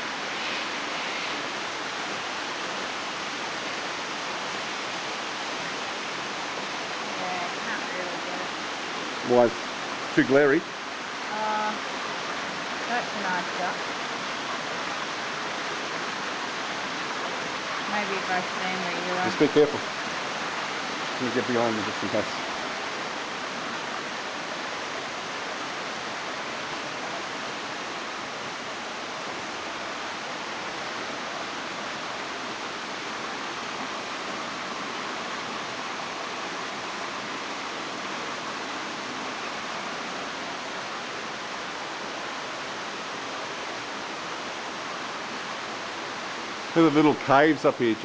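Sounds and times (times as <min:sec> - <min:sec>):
waterfall splashing over rock: 0:00.0 - 0:48.0.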